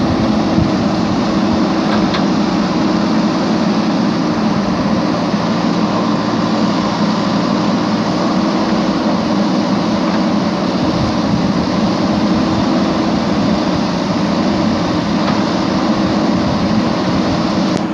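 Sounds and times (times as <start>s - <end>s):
low engine hum: 0.0s - 17.9s.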